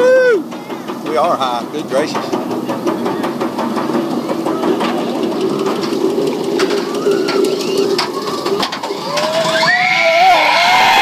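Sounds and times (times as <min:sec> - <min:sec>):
low mechanical hum: 0:00.0 - 0:11.0
lift hill clicks: 0:00.3 - 0:10.0.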